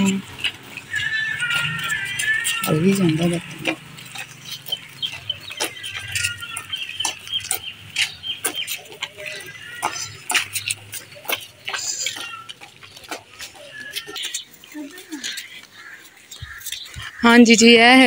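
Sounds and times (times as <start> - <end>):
birds chirping: 0.0 - 18.0
sandal footsteps on dirt: 0.0 - 18.0.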